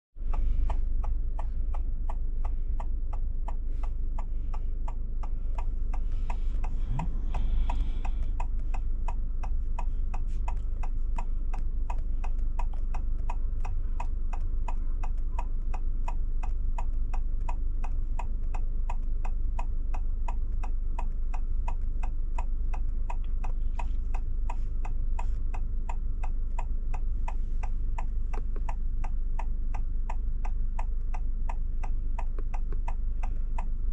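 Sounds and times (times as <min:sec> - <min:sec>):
car indicator ticking: 0:00.2 - 0:33.9
low cabin hum: 0:00.2 - 0:33.9.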